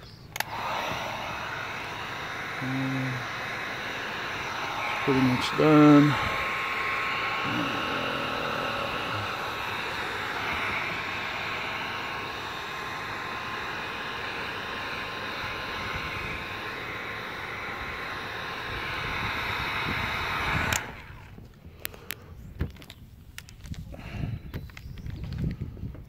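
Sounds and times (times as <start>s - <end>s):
heat gun fan whining: 0.0s - 26.0s.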